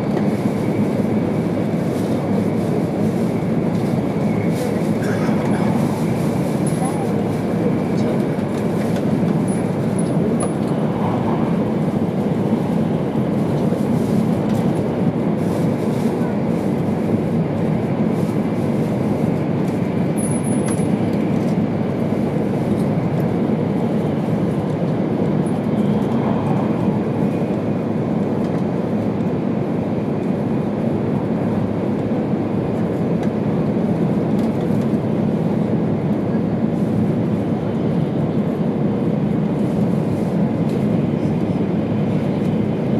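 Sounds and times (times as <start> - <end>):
train interior low rumble: 0.0 - 42.9.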